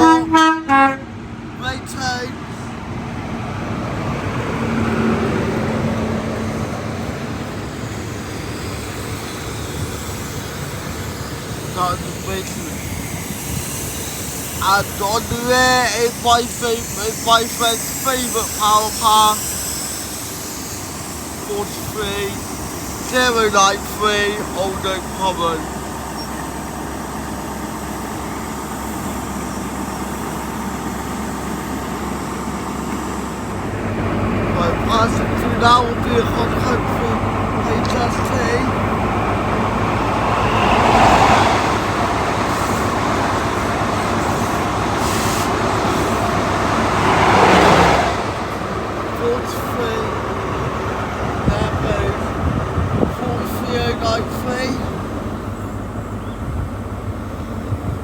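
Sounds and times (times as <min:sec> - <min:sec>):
diesel engine droning: 0:00.0 - 0:58.0
train passing rumble: 0:00.0 - 0:58.0.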